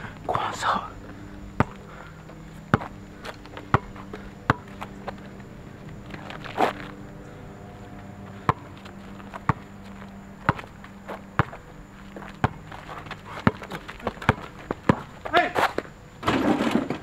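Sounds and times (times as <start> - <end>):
basketball bouncing on asphalt: 1.5 - 16.0.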